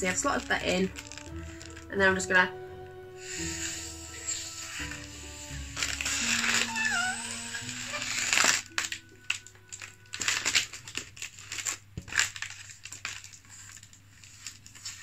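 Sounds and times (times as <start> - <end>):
foil balloon crinkling: 0.0 - 2.4, 3.2 - 15.0.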